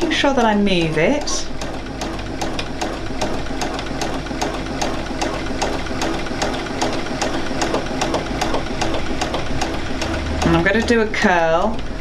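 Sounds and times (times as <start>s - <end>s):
sewing machine stitching: 0.0s - 12.0s.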